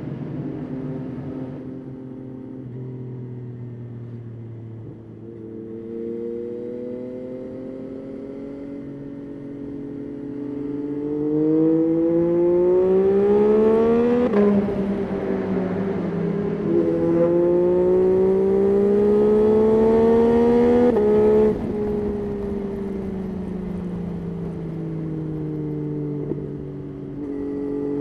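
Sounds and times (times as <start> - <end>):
motorcycle engine accelerating: 4.6 - 28.0.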